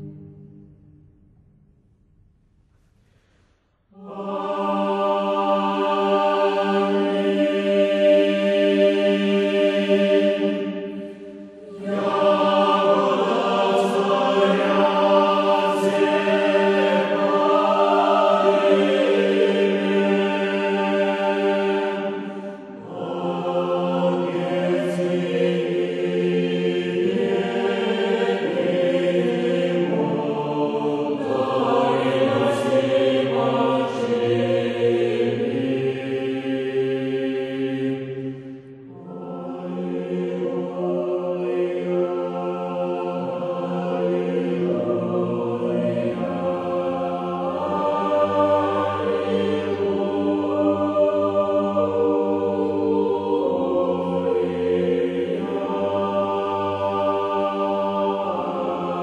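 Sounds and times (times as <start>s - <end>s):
choir singing low held chords: 0.0s - 59.0s.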